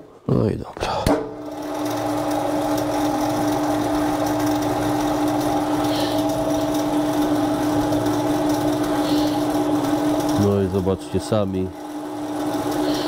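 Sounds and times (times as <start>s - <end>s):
pillar drill motor humming: 1.4s - 13.0s.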